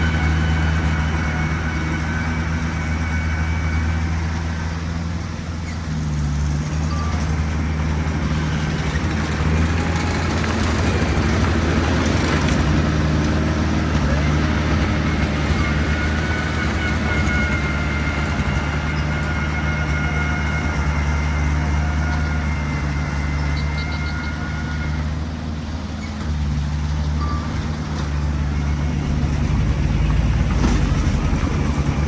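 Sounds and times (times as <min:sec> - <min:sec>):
heavy machinery diesel engine: 0:00.0 - 0:32.0.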